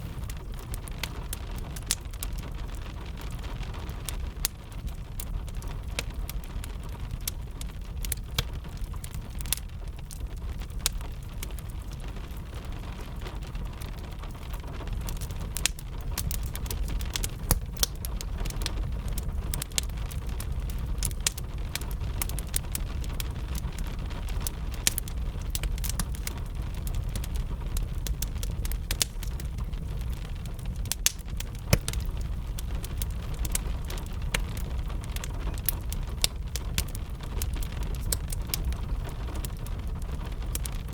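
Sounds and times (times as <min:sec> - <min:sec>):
fire crackling and popping: 0:00.0 - 0:40.9
steady rain: 0:00.0 - 0:40.9.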